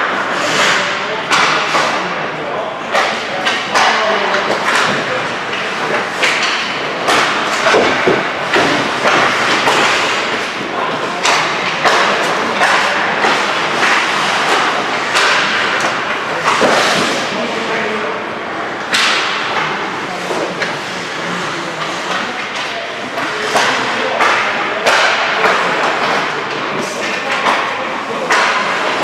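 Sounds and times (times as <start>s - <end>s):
pucks cracking off sticks: 0.0s - 17.9s, 18.7s - 29.0s
pucks banging into boards: 0.0s - 29.0s.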